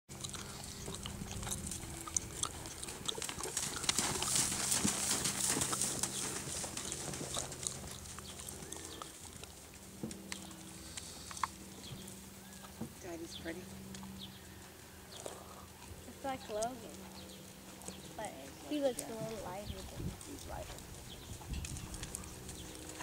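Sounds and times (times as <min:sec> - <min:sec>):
horse hoofbeats in sand: 0:00.2 - 0:10.6, 0:11.7 - 0:23.0.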